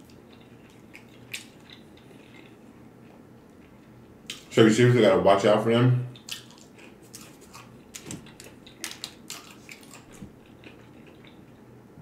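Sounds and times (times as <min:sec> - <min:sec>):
chewing crispy fried chicken: 0:00.0 - 0:04.5, 0:06.1 - 0:11.7.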